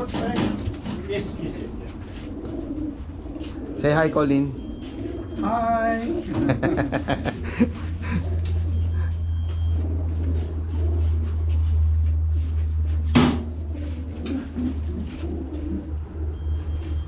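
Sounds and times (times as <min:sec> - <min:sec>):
pigeons cooing: 0:00.0 - 0:17.0
pigeons shuffling in baskets: 0:00.0 - 0:17.0.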